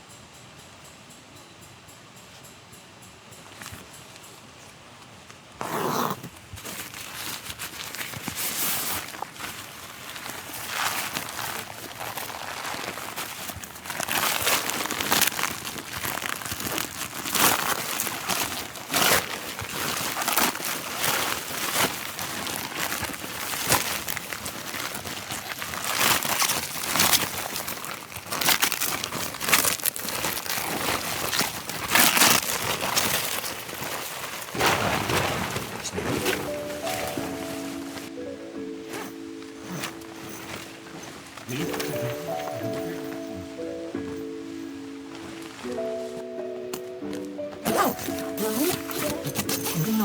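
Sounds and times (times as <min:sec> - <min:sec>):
crinkling and rustling: 0:05.0 - 0:50.0.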